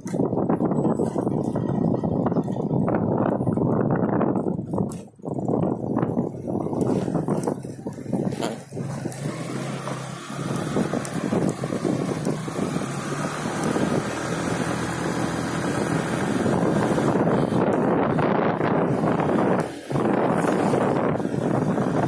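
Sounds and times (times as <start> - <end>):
motorcycle engine running: 0.0 - 22.0
road noise: 0.0 - 22.0
wind on microphone: 0.0 - 22.0.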